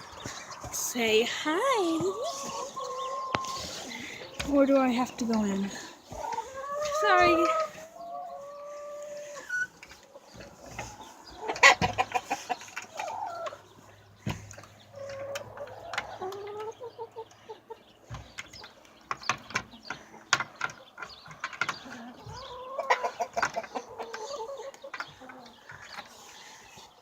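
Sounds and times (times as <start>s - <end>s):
hens clucking: 0.0s - 27.0s.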